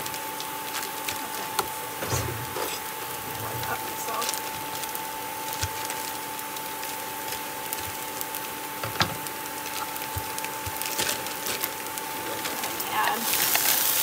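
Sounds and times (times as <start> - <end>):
onions sizzling in a frying pan: 0.0 - 14.0
plastic bag tearing and rustling: 0.0 - 14.0
thin steady whine: 0.0 - 14.0.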